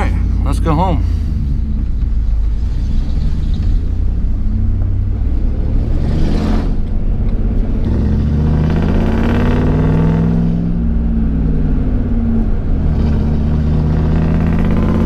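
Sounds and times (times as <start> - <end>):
pickup engine accelerating: 0.0 - 15.0
road noise inside cab: 0.0 - 15.0.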